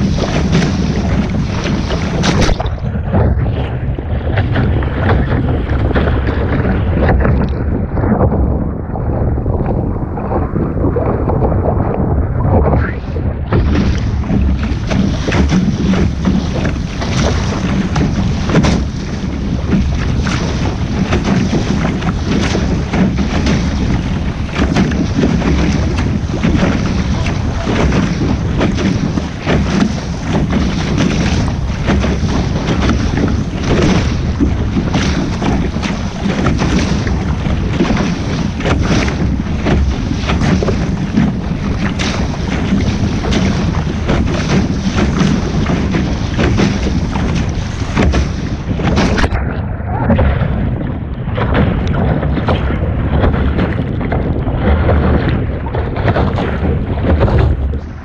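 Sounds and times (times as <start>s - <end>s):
water washing along boat: 0.0s - 58.0s
wind buffeting microphone: 0.0s - 58.0s.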